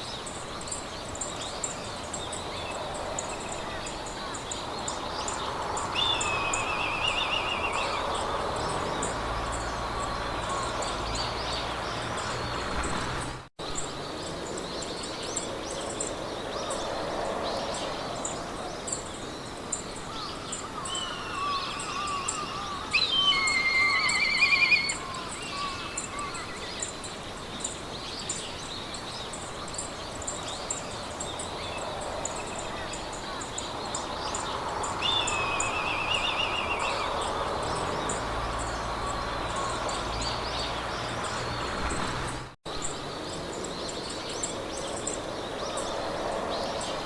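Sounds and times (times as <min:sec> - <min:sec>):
songbirds singing trills: 0:00.0 - 0:47.0
wind in grass: 0:00.0 - 0:47.0.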